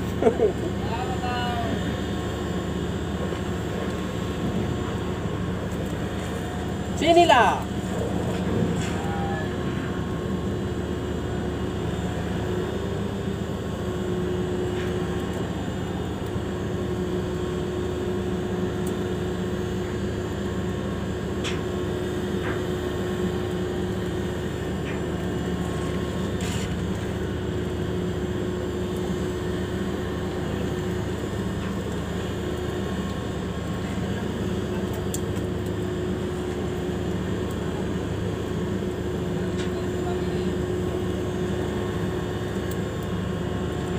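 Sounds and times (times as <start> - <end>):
marine engine running: 0.0 - 43.9.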